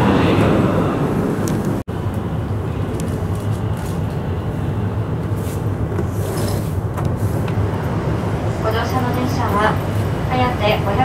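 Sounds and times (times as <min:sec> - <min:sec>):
train ventilation hum and hiss: 0:00.0 - 0:11.0.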